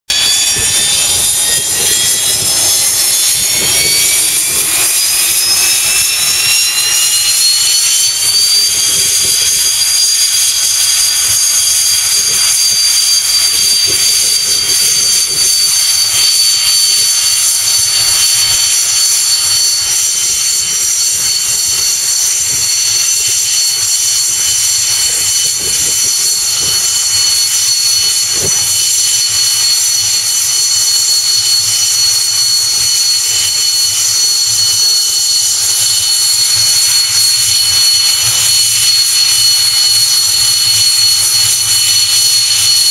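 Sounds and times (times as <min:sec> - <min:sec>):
jet engine whine: 0:00.1 - 0:42.9.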